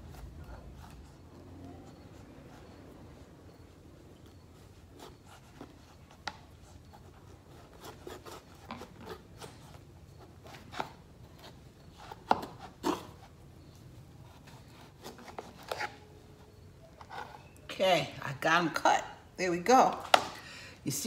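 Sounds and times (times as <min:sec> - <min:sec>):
knife cutting raw squash: 0:00.0 - 0:03.6, 0:04.3 - 0:17.6.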